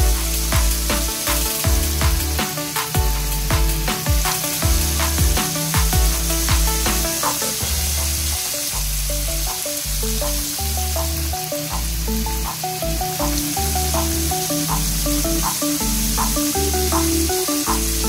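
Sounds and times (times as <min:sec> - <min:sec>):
electronic music with beat: 0:00.0 - 0:18.0
oil sizzling: 0:00.1 - 0:18.0.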